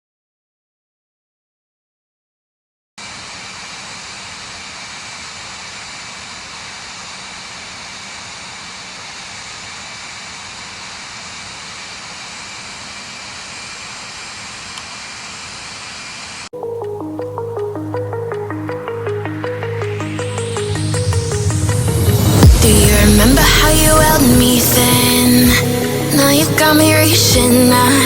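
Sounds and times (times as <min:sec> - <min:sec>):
jet engines rushing with whine: 0:03.0 - 0:16.5, 0:17.4 - 0:28.0.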